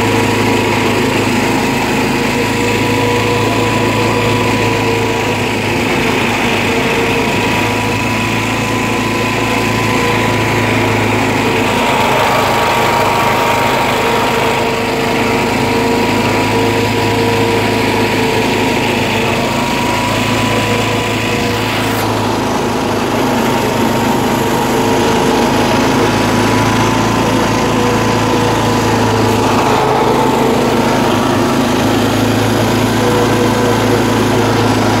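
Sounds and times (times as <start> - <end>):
lawn tractor engine running: 0.0 - 35.0.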